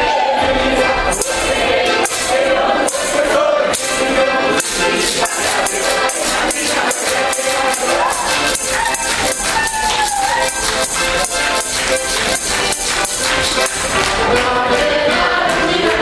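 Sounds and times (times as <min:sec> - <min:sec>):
person singing: 0:00.0 - 0:16.0
instrumental accompaniment: 0:00.8 - 0:15.8
percussion strikes: 0:01.0 - 0:15.0.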